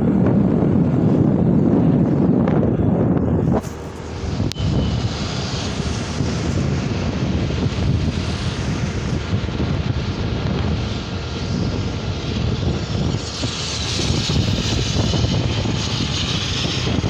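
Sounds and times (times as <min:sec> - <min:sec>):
vehicle engine and road noise: 0:00.0 - 0:17.0
wind rumbling on microphone: 0:00.0 - 0:17.0.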